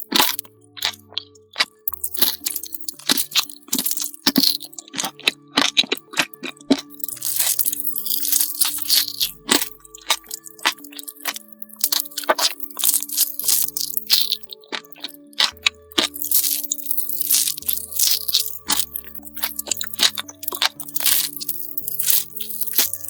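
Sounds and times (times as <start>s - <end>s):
background music low melody: 0.0s - 23.0s
chocolate cracking and crunching: 0.0s - 23.0s.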